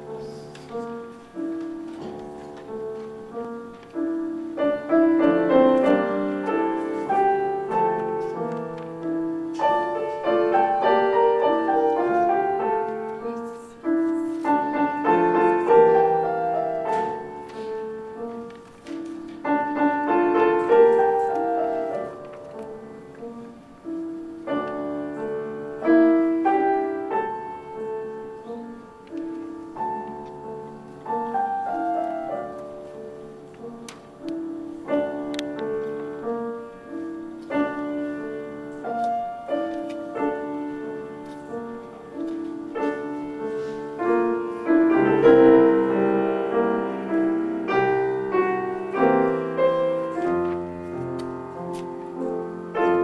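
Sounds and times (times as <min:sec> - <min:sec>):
grand piano duet: 0:00.0 - 0:53.0.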